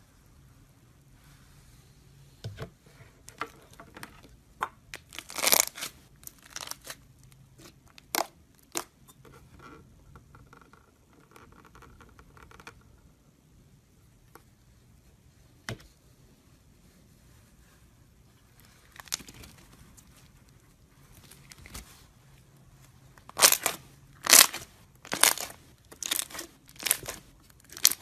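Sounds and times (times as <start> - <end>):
faint slime handling noise: 0.1 - 28.0.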